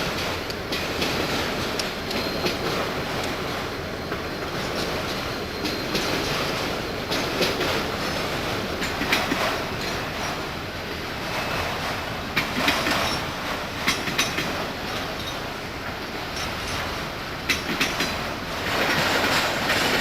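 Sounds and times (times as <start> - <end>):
steel wheels rumbling on rail: 0.0 - 20.0
wheels clacking over rail joints: 0.0 - 20.0.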